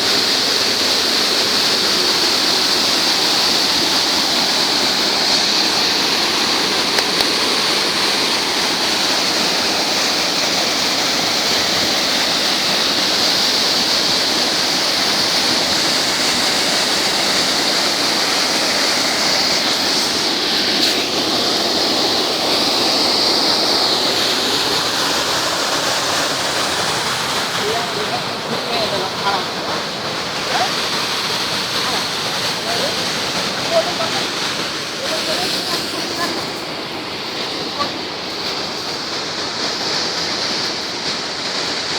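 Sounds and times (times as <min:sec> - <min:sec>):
river water rushing over rocks: 0:00.0 - 0:41.9.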